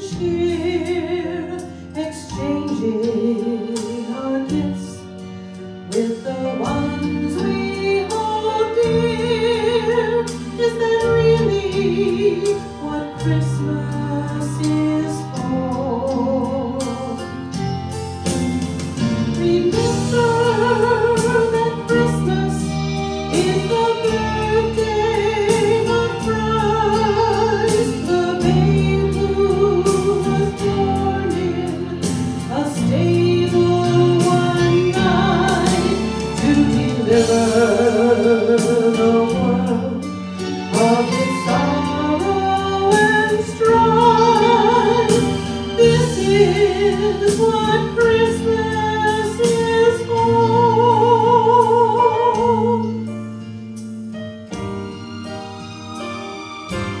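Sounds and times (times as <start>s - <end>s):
sustained keyboard accompaniment: 0.0s - 57.0s
woman singing with vibrato: 5.9s - 17.6s, 18.3s - 53.0s.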